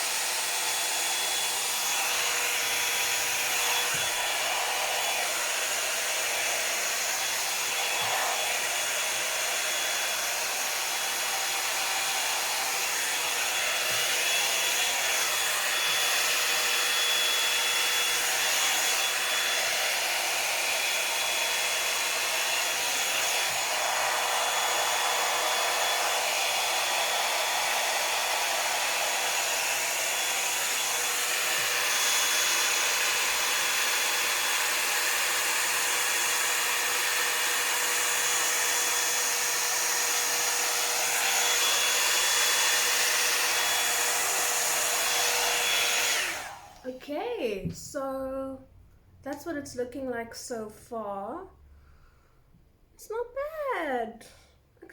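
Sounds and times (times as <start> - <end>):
hot-air brush hair dryer running: 0.0 - 47.0.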